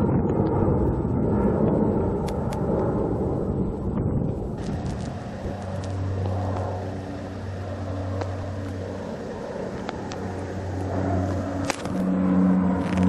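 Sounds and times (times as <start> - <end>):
aircraft engine hum: 0.0 - 13.0.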